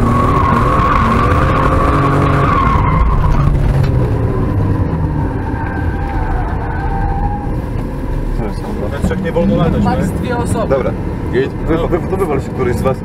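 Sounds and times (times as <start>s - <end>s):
car engine running hard: 0.0s - 13.0s.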